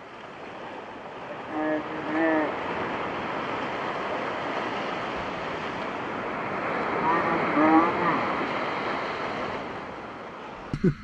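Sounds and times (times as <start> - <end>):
surf breaking on beach: 0.0 - 10.7.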